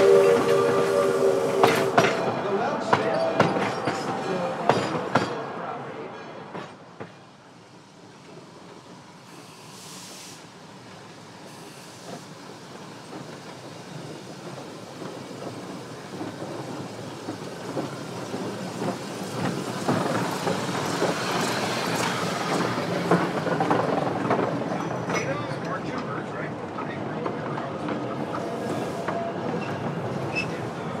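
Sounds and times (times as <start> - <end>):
steam train rumbling with clicks: 0.0 - 5.6, 6.4 - 31.0.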